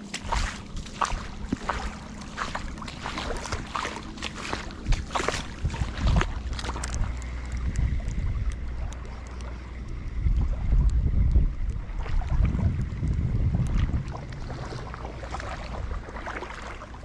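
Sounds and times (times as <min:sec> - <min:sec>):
short clicks or splashes: 0:00.0 - 0:17.0
wind rumble on microphone: 0:00.0 - 0:17.0.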